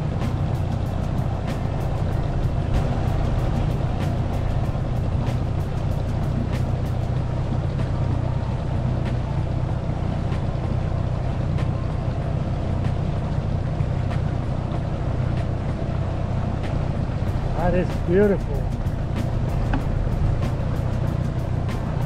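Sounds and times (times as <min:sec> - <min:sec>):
outboard motor running: 0:00.0 - 0:22.0
water rushing along hull: 0:00.0 - 0:22.0.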